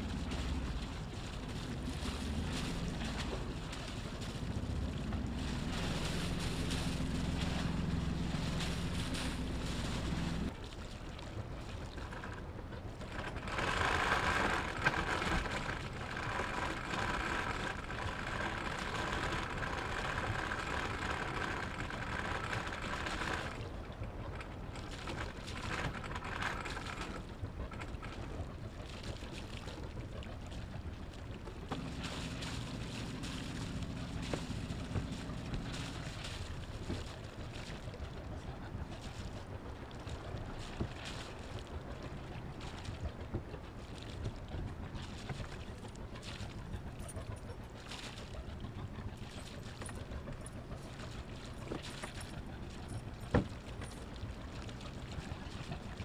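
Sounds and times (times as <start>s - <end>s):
boat engine humming: 0.0s - 56.0s
water washing past hull: 0.0s - 56.0s.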